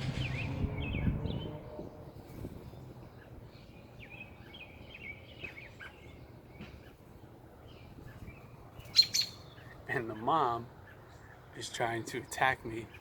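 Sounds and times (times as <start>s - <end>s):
robin chirping: 0.0s - 13.0s.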